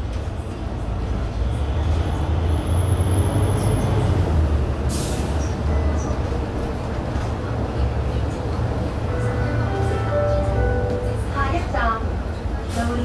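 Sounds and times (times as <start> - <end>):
bus engine and road drone: 0.0 - 13.0.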